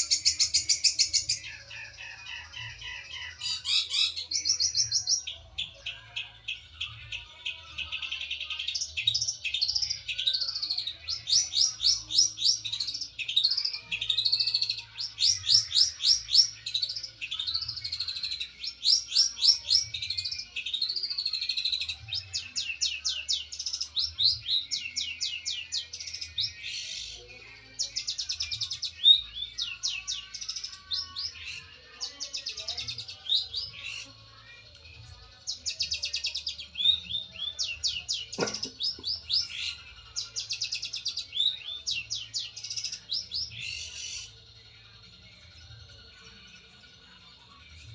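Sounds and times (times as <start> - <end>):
bird singing trills and chirps: 0.0 - 47.9.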